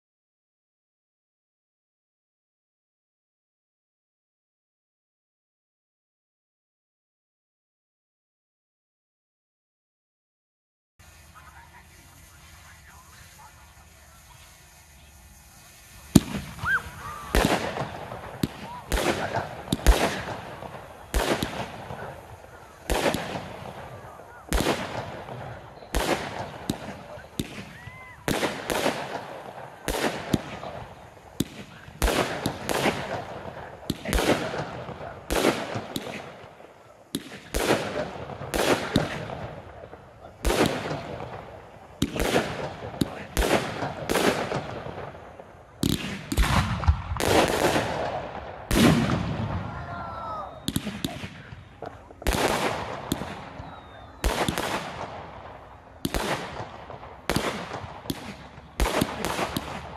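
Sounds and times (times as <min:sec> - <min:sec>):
fireworks shells bursting with echo: 0:11.0 - 0:59.9.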